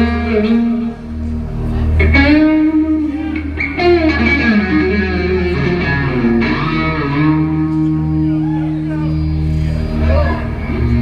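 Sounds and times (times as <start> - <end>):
electric guitar melody: 0.0 - 11.0.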